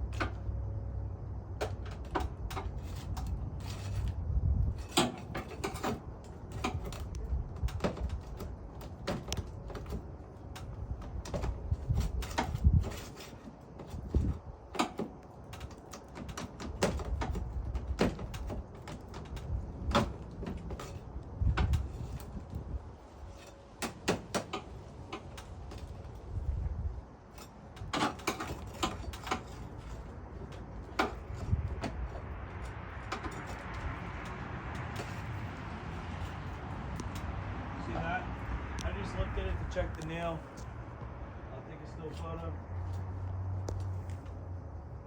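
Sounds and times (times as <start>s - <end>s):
metal scraping shingle: 0.0s - 0.6s, 1.2s - 38.1s.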